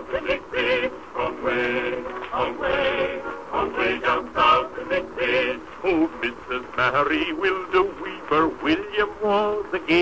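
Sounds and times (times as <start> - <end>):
man singing on old phonograph: 0.0 - 10.0.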